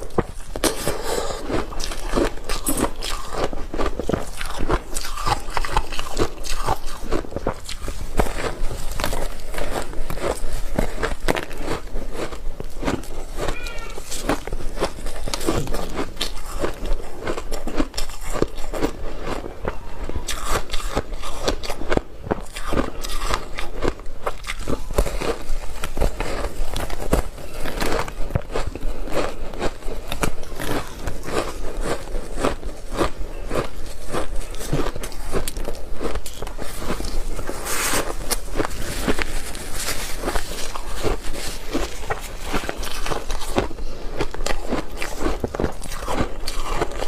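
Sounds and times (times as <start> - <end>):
ice crunching while chewed: 0.0 - 47.0.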